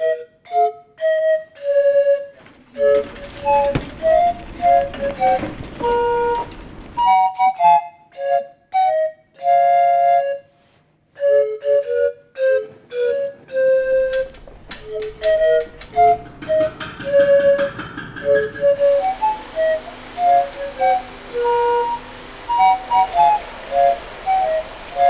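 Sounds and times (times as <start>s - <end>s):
flute-like melody: 0.0s - 25.0s.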